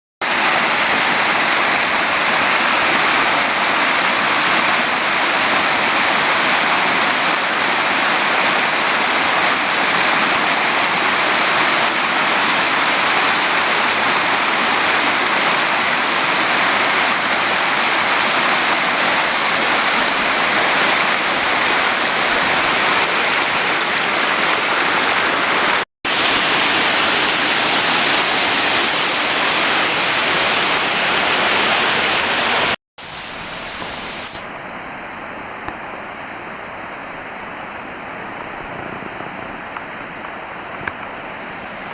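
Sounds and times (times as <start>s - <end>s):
waterfall rushing: 0.2s - 41.9s.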